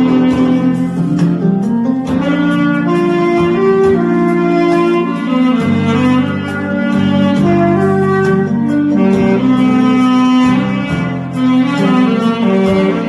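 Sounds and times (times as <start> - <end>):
saxophone playing melody: 0.0 - 13.0.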